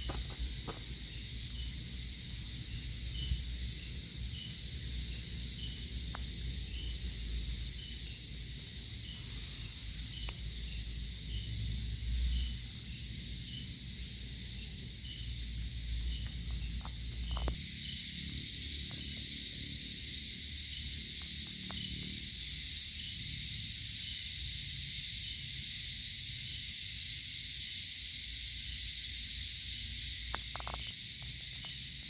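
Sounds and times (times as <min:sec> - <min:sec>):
insects chirping: 0:00.0 - 0:32.0.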